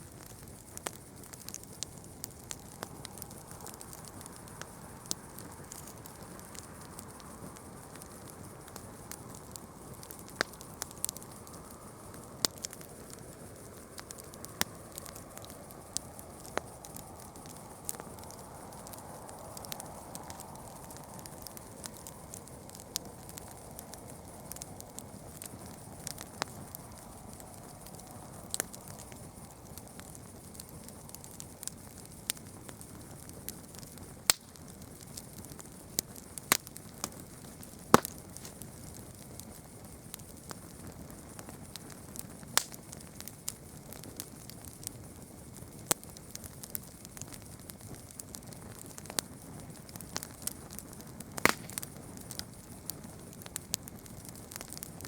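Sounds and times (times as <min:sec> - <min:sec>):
burning wood hissing: 0:00.0 - 0:55.0
fire popping and snapping: 0:00.0 - 0:55.0.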